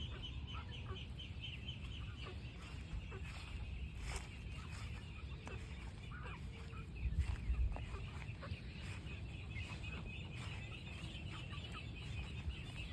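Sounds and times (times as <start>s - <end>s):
poultry clucking: 0.0s - 12.9s.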